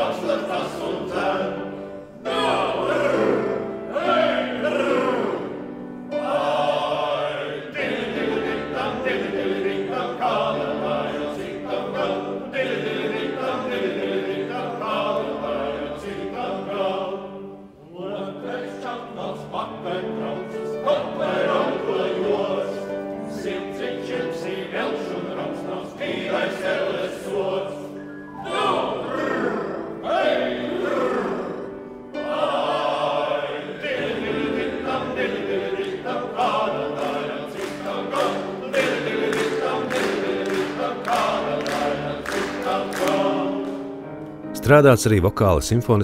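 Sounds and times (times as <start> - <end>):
men singing in harmony: 0.0 - 44.2.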